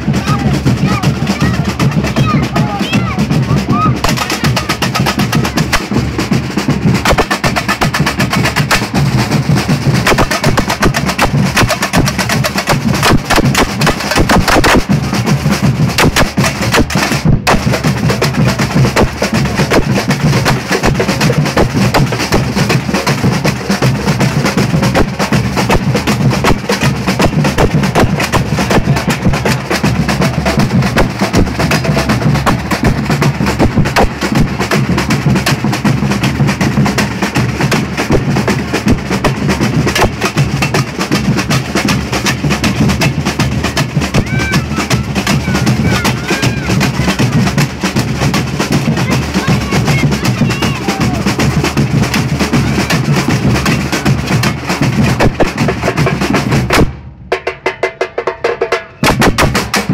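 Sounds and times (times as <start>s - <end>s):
samba percussion band: 0.0s - 59.9s.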